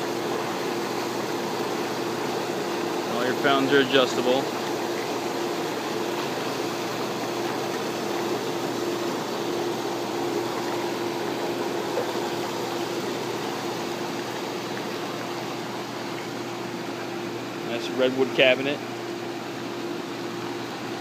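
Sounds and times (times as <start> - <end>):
steady pump hum: 0.0 - 21.0
water churning hard: 0.0 - 21.0.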